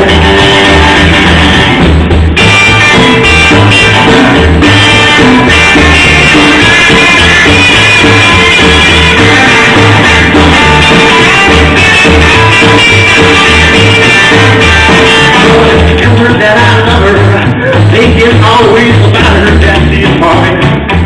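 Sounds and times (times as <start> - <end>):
rockabilly band playing live: 0.0 - 21.0.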